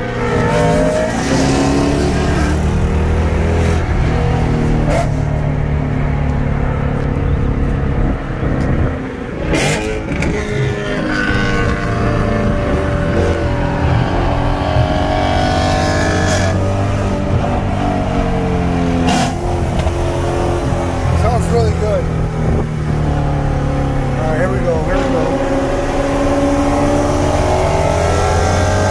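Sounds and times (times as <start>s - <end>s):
car engine accelerating: 0.0s - 28.9s.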